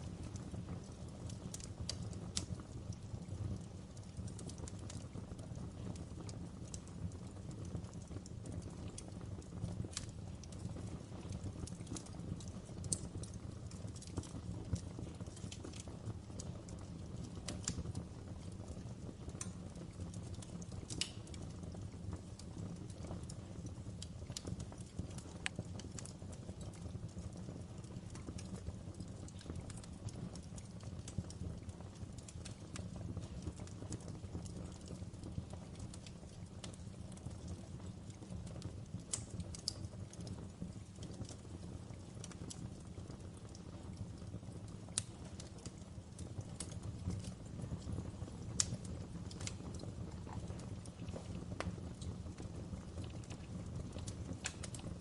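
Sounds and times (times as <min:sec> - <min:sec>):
fire crackles and pops: 0:00.0 - 0:55.0
fire low rumble: 0:00.0 - 0:55.0.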